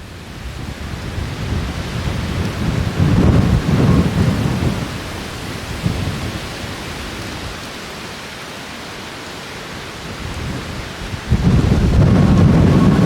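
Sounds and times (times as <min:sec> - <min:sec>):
strong wind buffeting microphone: 0:00.0 - 0:07.6, 0:10.0 - 0:13.0.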